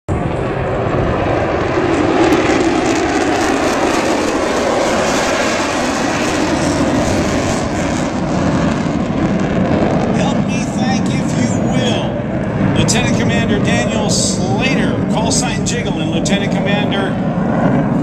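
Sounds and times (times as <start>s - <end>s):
jet fighters flying past: 0.1s - 18.0s.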